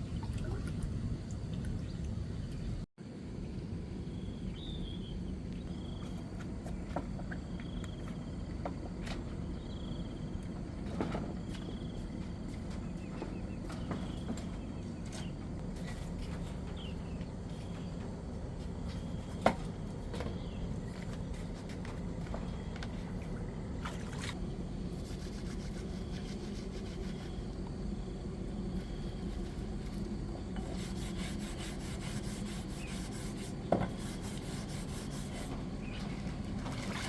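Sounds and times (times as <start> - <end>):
steady low rumble: 0.0 - 13.5, 15.4 - 32.3.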